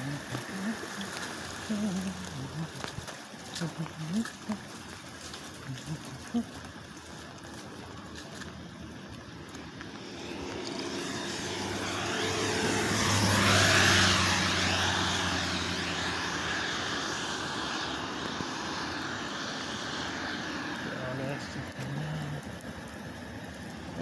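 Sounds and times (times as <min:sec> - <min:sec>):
propeller airplane flying over: 0:00.0 - 0:24.0.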